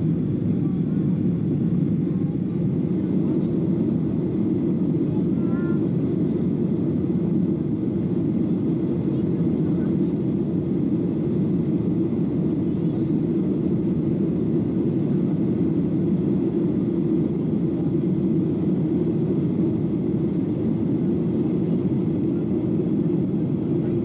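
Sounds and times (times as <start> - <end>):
airplane cabin hum: 0.0 - 24.0.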